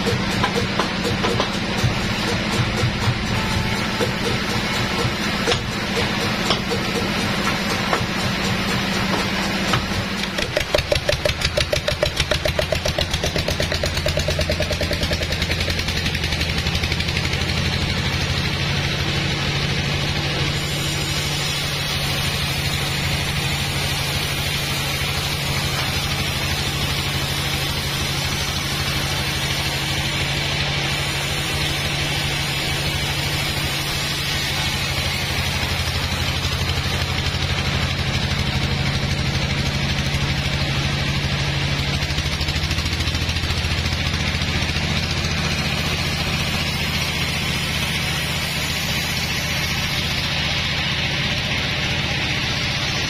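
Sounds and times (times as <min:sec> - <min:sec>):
diesel engine running: 0:00.0 - 0:53.0
exhaust hiss: 0:00.0 - 0:53.0.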